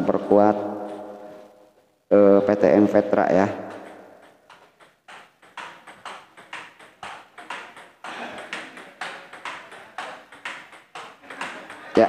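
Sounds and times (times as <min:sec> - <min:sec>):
table tennis ball hitting bats and table: 0:00.0 - 0:01.9, 0:02.5 - 0:12.0.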